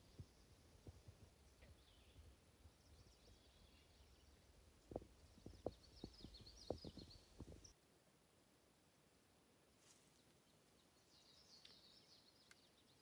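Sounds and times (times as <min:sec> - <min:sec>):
wilderness ambience: 0:00.0 - 0:13.0.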